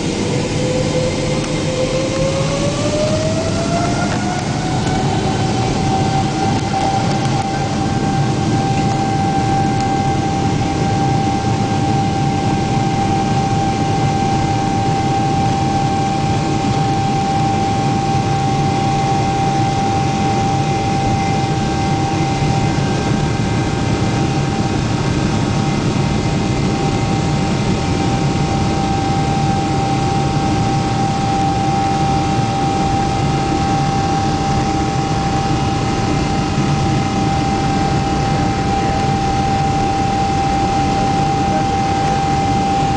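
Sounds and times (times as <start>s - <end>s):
jet engine roar in cabin: 0.0s - 42.9s.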